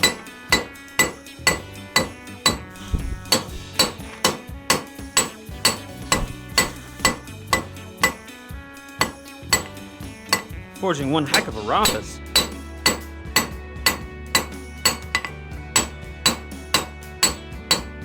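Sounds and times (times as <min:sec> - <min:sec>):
hammer striking metal on anvil: 0:00.0 - 0:08.3, 0:09.0 - 0:18.0.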